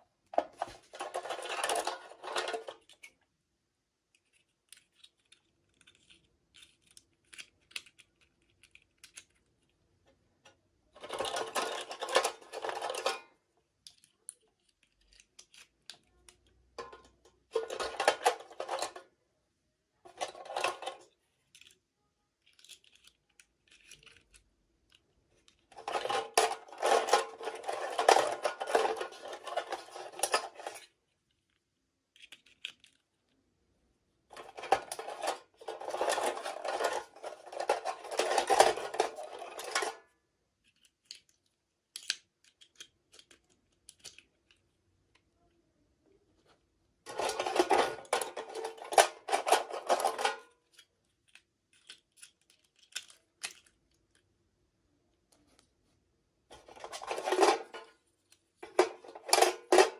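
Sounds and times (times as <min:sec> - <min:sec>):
plastic pieces clicking and tapping: 0:00.2 - 0:03.3, 0:04.0 - 0:19.1, 0:20.1 - 0:33.4, 0:34.3 - 0:45.5, 0:47.1 - 0:54.4, 0:56.5 - 0:59.9.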